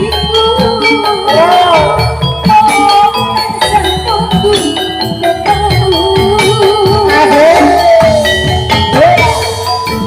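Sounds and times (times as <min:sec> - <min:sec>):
ringing metallophone tones: 0:00.0 - 0:10.0.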